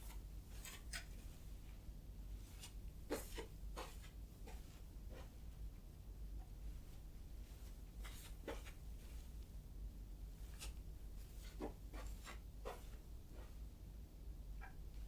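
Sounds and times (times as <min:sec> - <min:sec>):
low steady room hum: 0:00.0 - 0:15.0.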